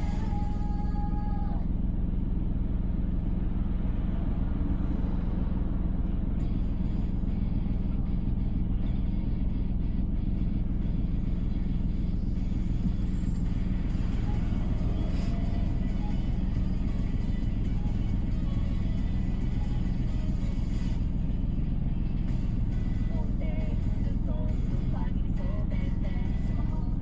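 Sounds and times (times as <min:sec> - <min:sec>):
car engine and tyre rumble: 0:00.0 - 0:27.0
faint music: 0:00.0 - 0:27.0.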